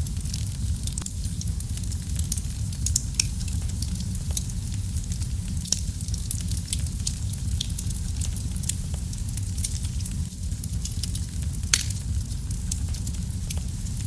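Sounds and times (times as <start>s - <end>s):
fire crackling: 0.0s - 14.0s
fire popping and snapping: 0.0s - 14.0s.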